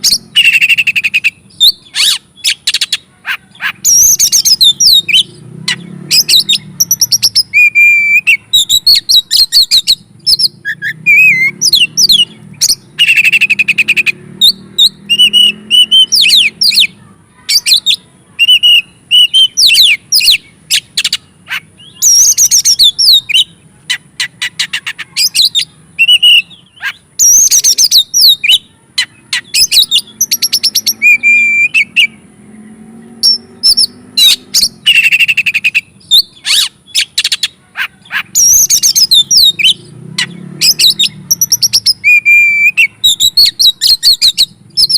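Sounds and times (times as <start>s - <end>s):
magpie-robin singing: 0.0s - 32.3s, 33.1s - 44.9s.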